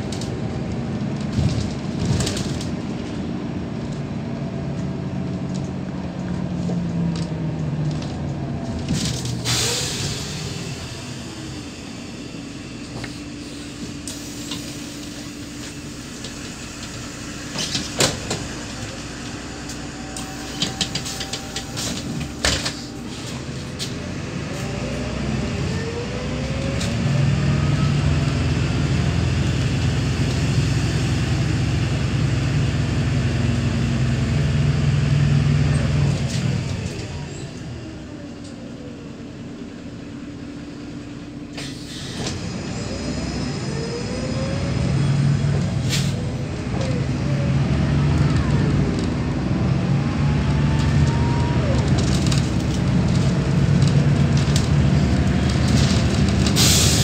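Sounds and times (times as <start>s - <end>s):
bus diesel engine idling: 0.0s - 57.0s
bus engine and gearbox whine: 0.0s - 57.0s.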